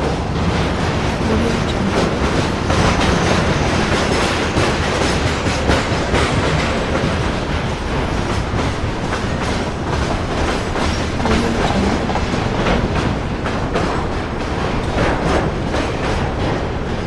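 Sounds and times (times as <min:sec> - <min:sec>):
train rumbling on rails: 0:00.0 - 0:17.0
wheels rattling and knocking: 0:00.0 - 0:17.0.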